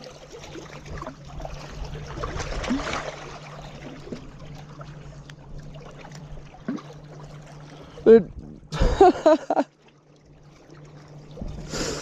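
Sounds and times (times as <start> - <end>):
lake water washing against bank: 0.0 - 9.7
steady low hum: 0.0 - 12.0.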